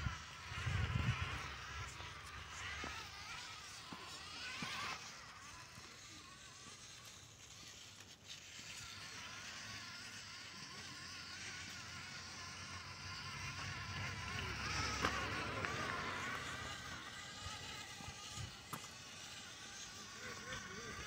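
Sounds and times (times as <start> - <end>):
toy car electric motor whining: 0.0 - 21.0.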